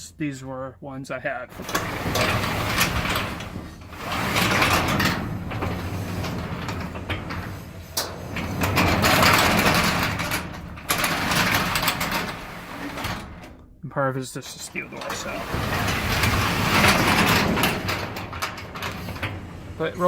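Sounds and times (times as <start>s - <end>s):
garage door rolling on tracks: 1.4s - 20.0s.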